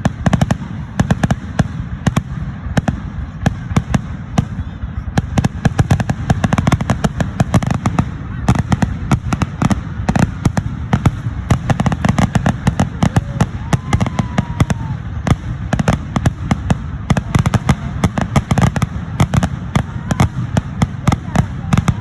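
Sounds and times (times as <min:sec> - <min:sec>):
fireworks deep booms: 0:00.0 - 0:22.0
fireworks sharp bangs: 0:00.0 - 0:22.0.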